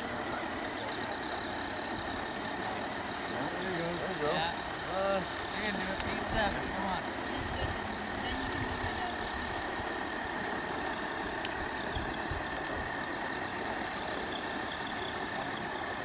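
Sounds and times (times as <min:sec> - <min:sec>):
electric motor high whine: 0:00.0 - 0:16.0.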